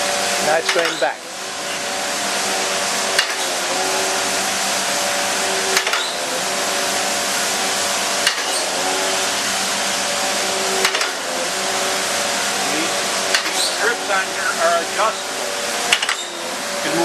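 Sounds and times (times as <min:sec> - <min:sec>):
grinder hum and hiss: 0:00.0 - 0:17.0.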